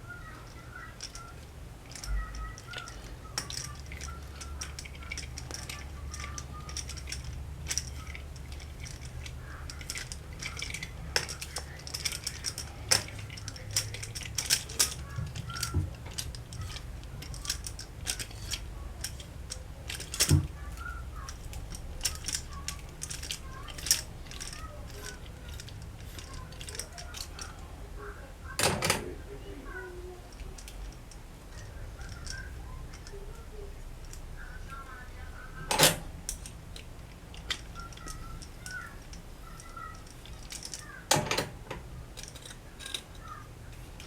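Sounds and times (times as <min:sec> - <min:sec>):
low steady hum: 0:00.0 - 0:44.0
metal tools clicking and clinking: 0:00.4 - 0:27.7, 0:28.5 - 0:34.2, 0:35.7 - 0:44.0.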